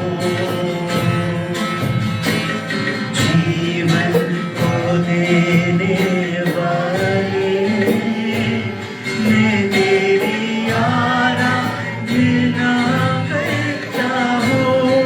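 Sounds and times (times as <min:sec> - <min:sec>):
person singing worship song: 0:00.0 - 0:02.2, 0:03.0 - 0:15.0
instrumental accompaniment with beat: 0:00.0 - 0:15.0.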